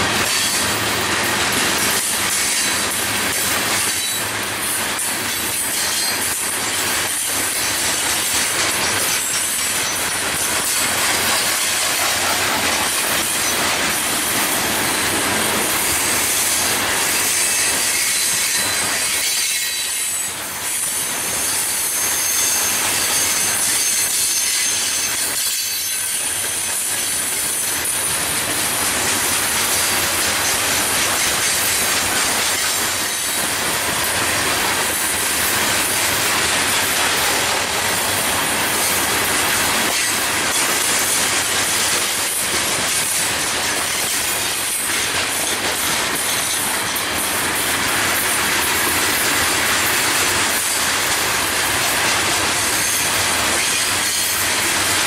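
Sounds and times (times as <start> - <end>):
wheel squeal against rail: 0.0 - 14.0, 15.0 - 38.1, 38.7 - 47.3, 48.0 - 55.0
steel wheels rumbling on rails: 0.0 - 55.0.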